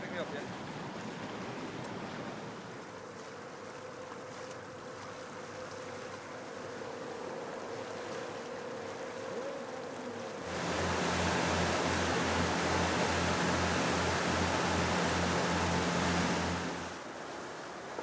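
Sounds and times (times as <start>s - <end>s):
outboard engine running: 0.0s - 17.5s
rushing wake water: 0.0s - 18.0s
water wash: 0.0s - 18.0s
wind: 0.0s - 18.0s.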